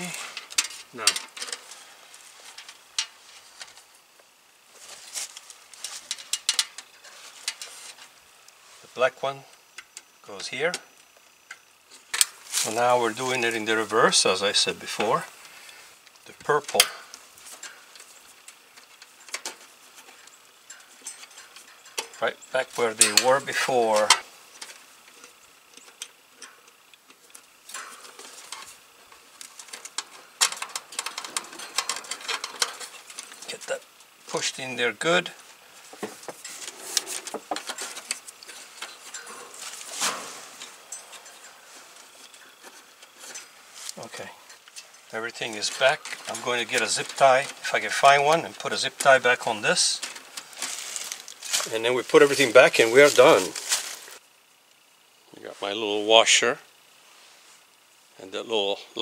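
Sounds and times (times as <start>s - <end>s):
wires rustling: 0.0s - 9.0s, 11.1s - 54.4s.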